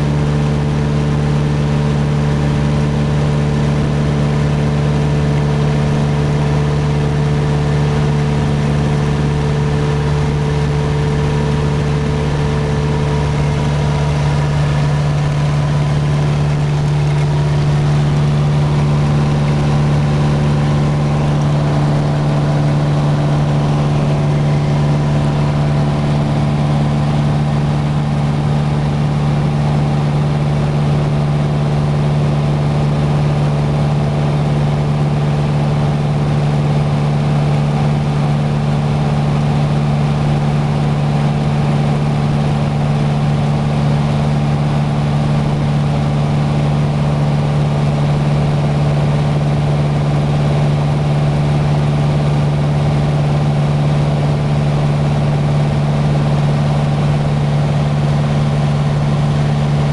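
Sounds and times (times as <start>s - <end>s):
aircraft engine and propeller drone: 0.0s - 59.9s.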